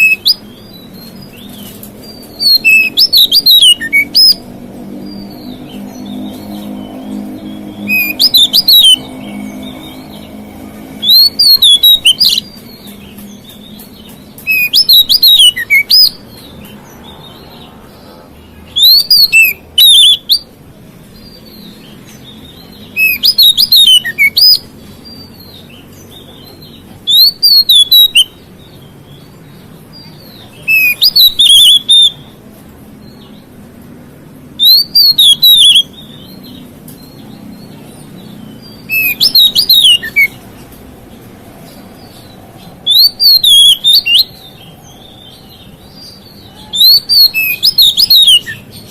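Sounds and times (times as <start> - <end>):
magpie-robin whistled song: 0.0 - 4.5, 5.1 - 17.4, 18.7 - 20.5, 21.2 - 32.4, 34.5 - 40.4, 41.7 - 48.9.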